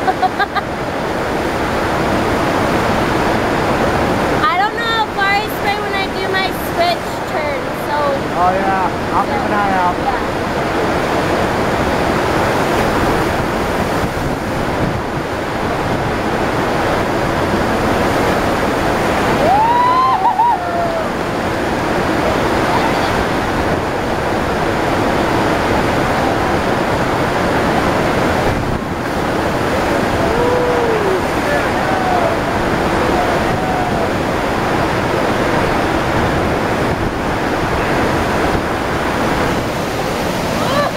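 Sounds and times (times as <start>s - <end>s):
loud rush of water: 0.0s - 40.9s.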